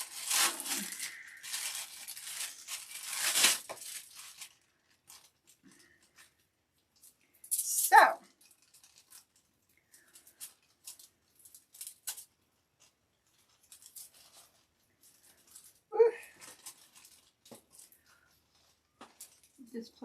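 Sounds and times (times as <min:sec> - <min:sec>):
packaging rustling: 0:00.0 - 0:06.4, 0:08.3 - 0:19.6.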